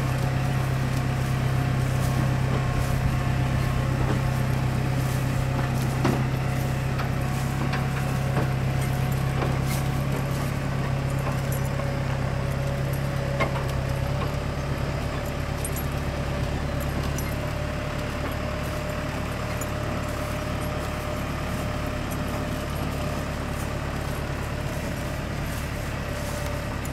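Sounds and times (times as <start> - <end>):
harvester engine running: 0.0 - 26.9.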